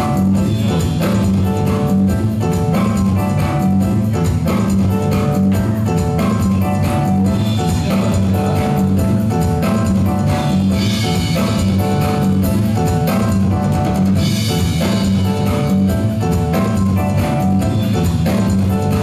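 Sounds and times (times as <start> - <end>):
dance music: 0.0 - 19.0.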